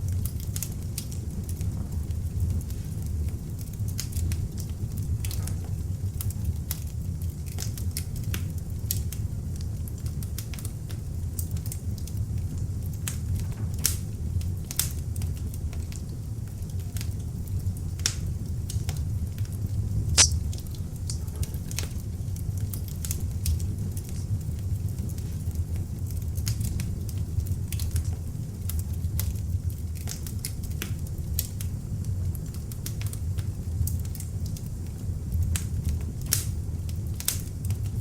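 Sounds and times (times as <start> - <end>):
fire crackling and popping: 0.0 - 38.0
low rumble of flame: 0.0 - 38.0.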